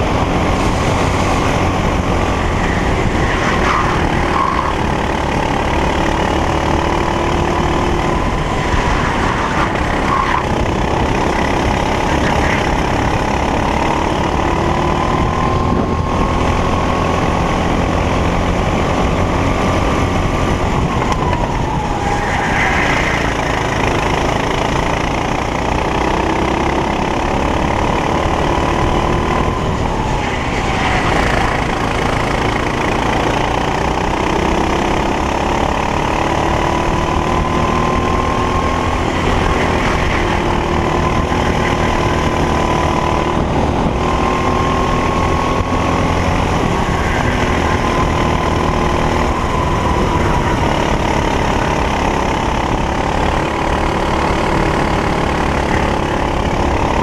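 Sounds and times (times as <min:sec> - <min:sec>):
racing kart engine: 0:00.0 - 0:57.0.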